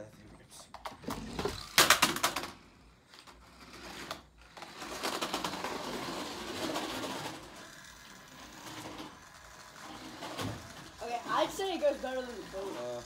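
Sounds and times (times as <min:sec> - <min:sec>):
toy car electric motor whirring: 0:01.0 - 0:13.0.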